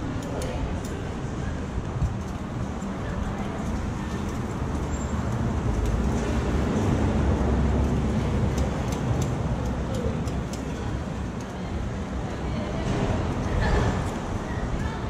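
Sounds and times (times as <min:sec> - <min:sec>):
street noise rumble: 0:00.0 - 0:15.0.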